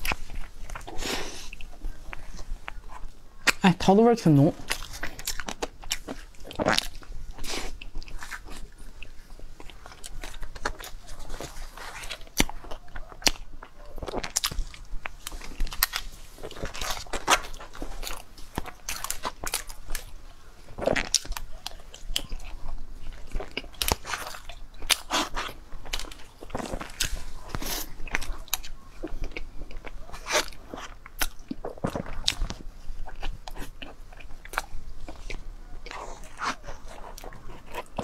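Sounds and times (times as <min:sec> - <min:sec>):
person chewing and smacking: 0:00.0 - 0:38.0.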